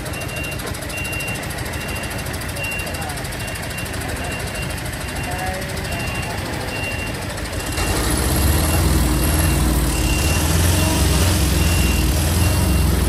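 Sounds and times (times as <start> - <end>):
heavy truck engine rumbling: 0.0 - 13.0
reversing alarm beeping: 0.0 - 13.0.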